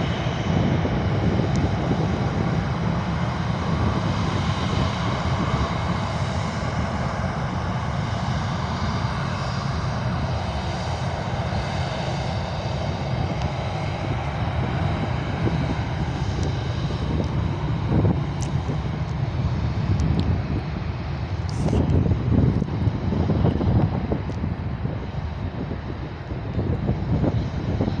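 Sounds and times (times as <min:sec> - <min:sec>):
faint engine whine: 0:00.0 - 0:28.0
jet engines rumbling: 0:00.0 - 0:28.0.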